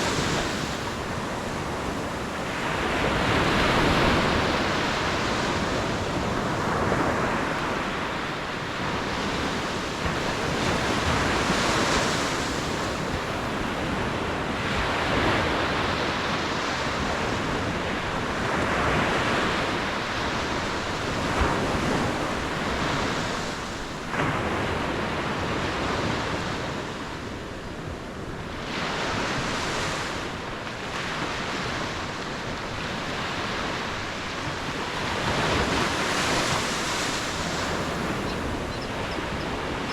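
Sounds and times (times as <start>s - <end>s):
ocean waves breaking on shore: 0.0s - 39.9s
wind noise on microphone: 0.0s - 39.9s.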